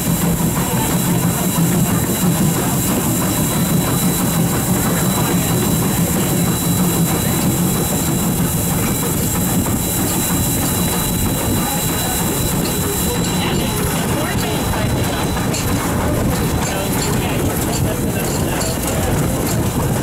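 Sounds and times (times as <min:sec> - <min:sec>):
faint clickety-clack: 0:00.0 - 0:20.0
steam locomotive rumbling: 0:00.0 - 0:20.0.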